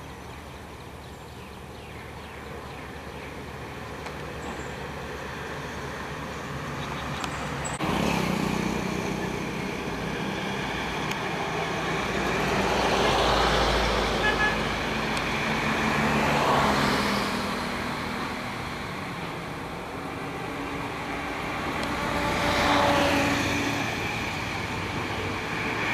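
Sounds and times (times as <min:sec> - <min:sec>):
motor vehicles passing: 0:00.0 - 0:25.9
steady engine hum: 0:00.0 - 0:25.9.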